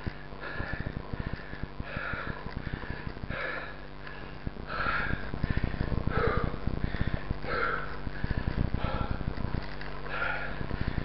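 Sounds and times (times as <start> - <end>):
person breathing hard: 0.0 - 11.0.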